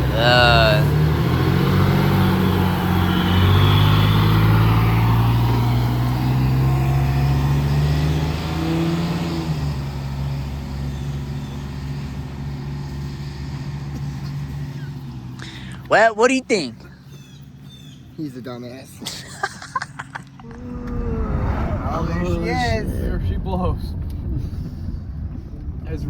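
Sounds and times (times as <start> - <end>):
fire engine droning: 0.0 - 17.9, 19.4 - 25.8.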